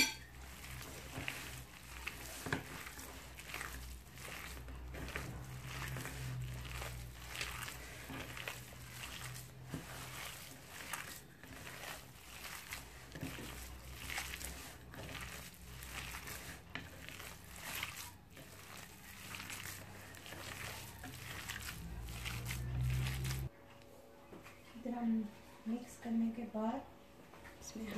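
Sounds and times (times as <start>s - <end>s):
hands squishing minced meat: 0.0s - 23.5s.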